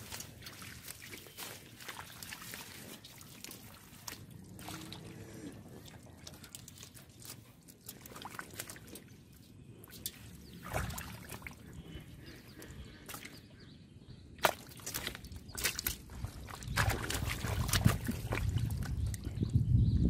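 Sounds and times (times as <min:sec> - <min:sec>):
hands splashing through mud: 0:00.0 - 0:09.2, 0:09.8 - 0:11.8, 0:12.6 - 0:13.4, 0:14.4 - 0:19.3.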